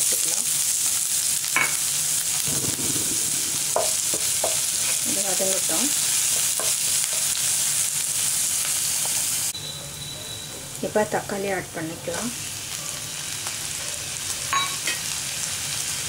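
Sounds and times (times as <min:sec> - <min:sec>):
vegetables sizzling in hot oil: 0:00.0 - 0:09.6, 0:10.6 - 0:16.0.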